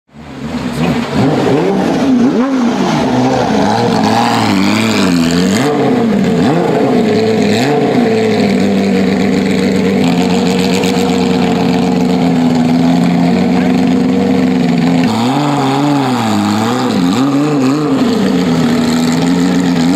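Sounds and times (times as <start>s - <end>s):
car engine revving: 0.1s - 19.9s.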